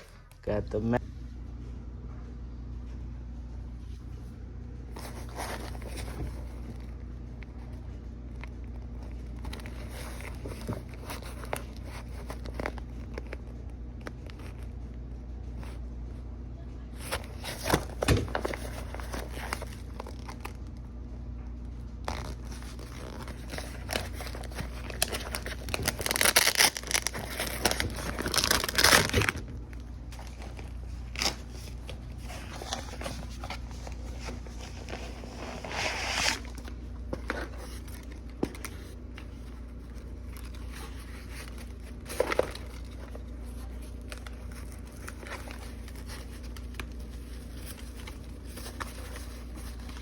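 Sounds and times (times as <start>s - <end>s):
steady low hum: 0.0s - 50.0s
packaging crinkling and tearing: 4.9s - 14.8s, 17.0s - 20.9s, 22.0s - 50.0s.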